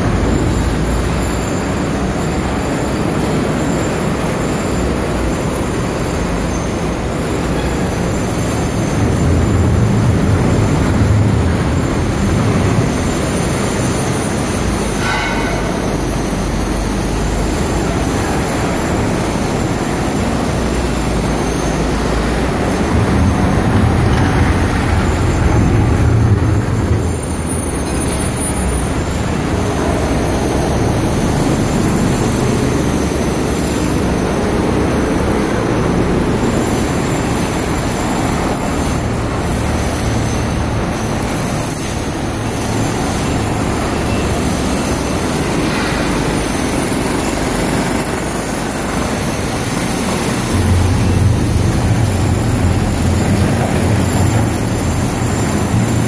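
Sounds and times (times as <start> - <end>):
heavy diesel machinery rumbling: 0.0 - 56.0.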